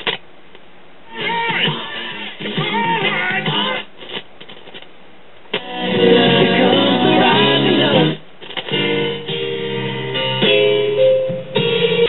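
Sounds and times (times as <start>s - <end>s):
radio music with singing and guitar: 0.0s - 12.0s.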